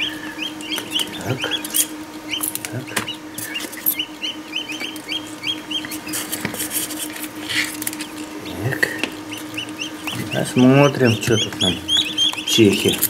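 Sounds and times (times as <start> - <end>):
chicks peeping: 0.0 - 13.0
low hum: 0.0 - 13.0.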